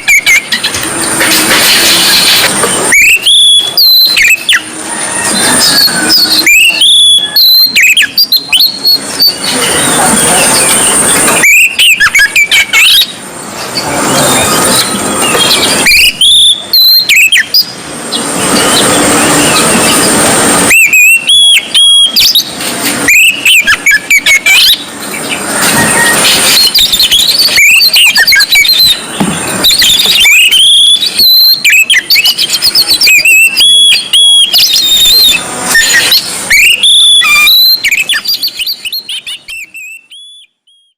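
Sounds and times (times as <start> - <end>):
bird singing whistled phrases: 0.0 - 0.7, 2.2 - 13.1, 14.0 - 20.1, 20.7 - 22.5, 23.1 - 24.8, 25.8 - 40.9.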